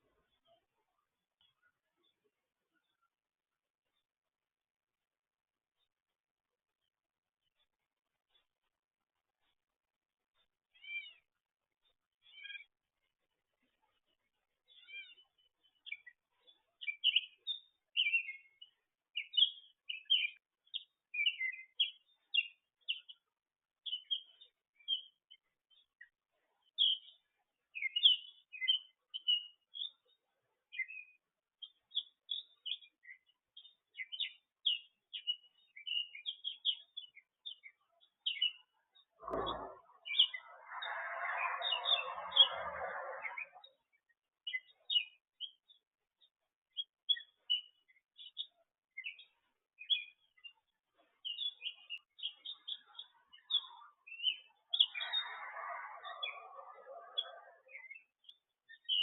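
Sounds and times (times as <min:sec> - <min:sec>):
songbirds chirping and twittering: 0:00.0 - 0:59.0.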